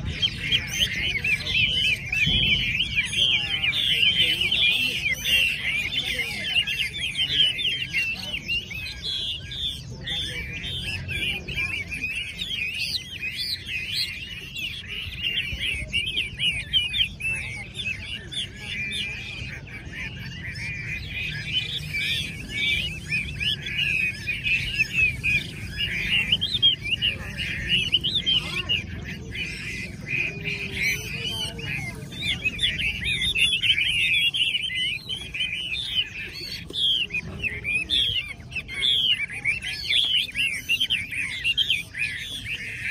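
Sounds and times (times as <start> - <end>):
chorus of birds singing: 0.0 - 42.9.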